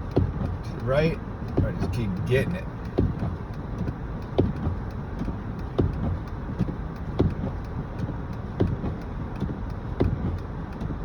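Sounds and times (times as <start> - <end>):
car cabin rumble: 0.0 - 11.0
faint ticks: 0.1 - 11.0.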